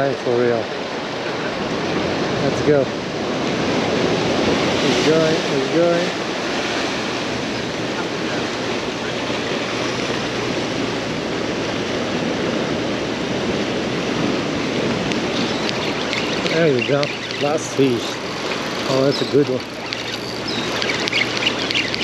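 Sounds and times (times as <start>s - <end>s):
choppy sea water churning: 0.0s - 22.0s
wind buffeting microphone: 0.0s - 22.0s.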